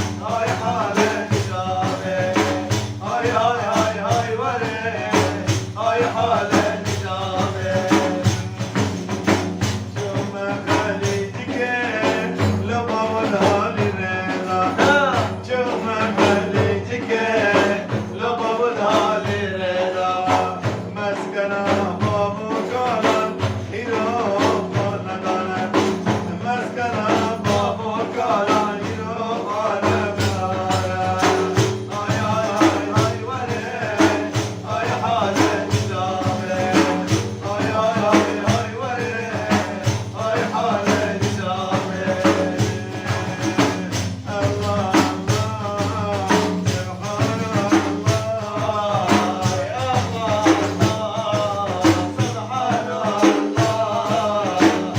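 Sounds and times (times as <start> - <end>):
frame drums with jingles: 0.0 - 54.9
man singing praise song: 0.0 - 54.9.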